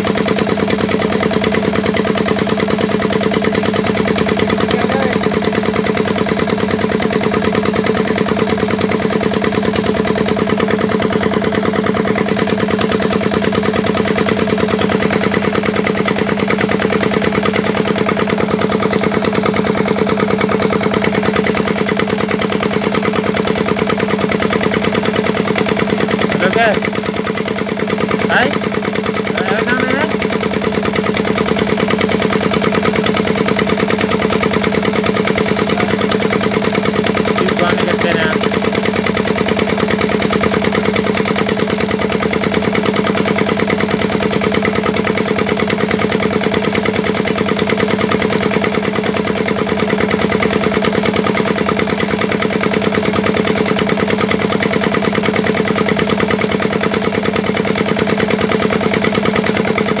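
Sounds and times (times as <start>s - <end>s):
engine running steadily: 0.0s - 60.0s.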